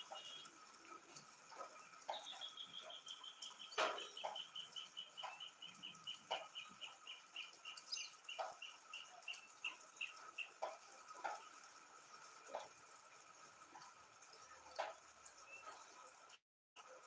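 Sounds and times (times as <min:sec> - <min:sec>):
rainwater dripping: 0:00.0 - 0:17.0.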